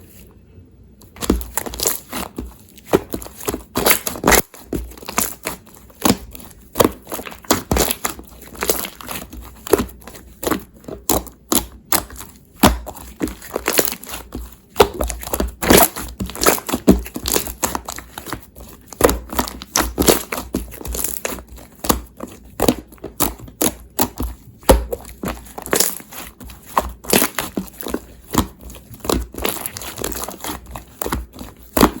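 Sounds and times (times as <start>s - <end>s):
crinkling and crackling: 1.0s - 32.0s.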